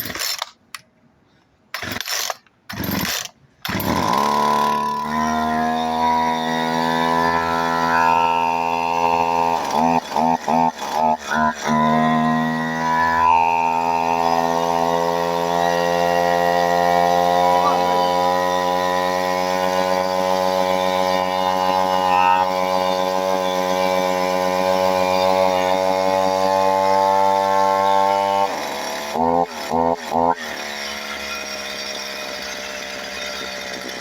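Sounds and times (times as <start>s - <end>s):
chainsaw engine running and sputtering: 0.0s - 0.6s, 1.8s - 34.0s.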